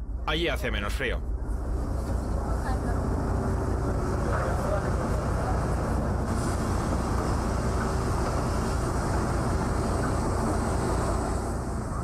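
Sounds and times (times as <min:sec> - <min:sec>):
faint constant hum: 0:00.0 - 0:12.0
ship deck machinery rumble: 0:00.0 - 0:12.0.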